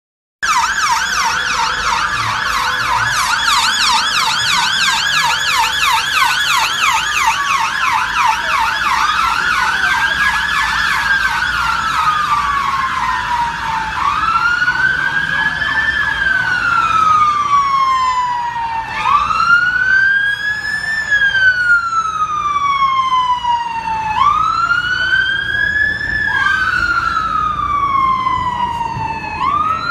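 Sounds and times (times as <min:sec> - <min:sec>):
emergency vehicle sirens: 0:00.4 - 0:29.9.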